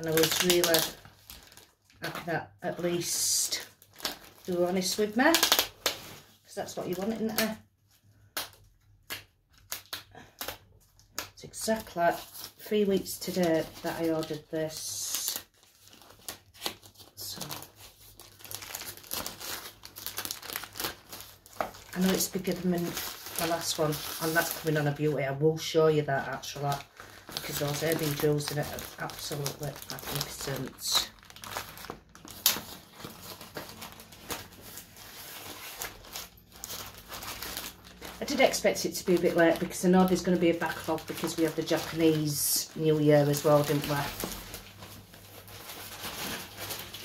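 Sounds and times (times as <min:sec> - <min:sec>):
plastic mailer bag crinkling: 0:00.0 - 0:08.7, 0:09.5 - 0:47.0.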